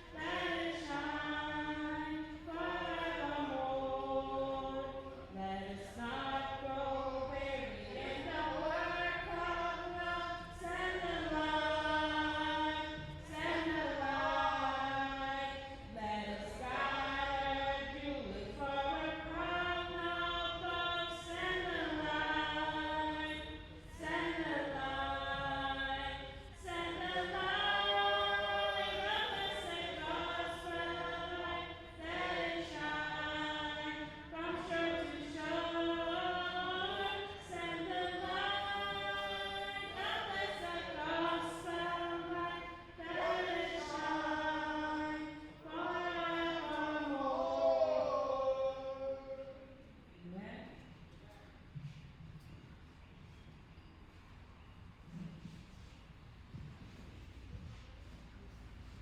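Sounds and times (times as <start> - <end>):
choir singing a hymn: 0.0 - 49.7.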